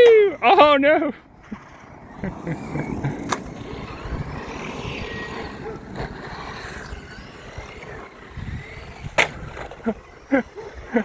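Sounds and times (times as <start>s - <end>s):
toy truck tyres rumbling: 0.0s - 11.0s.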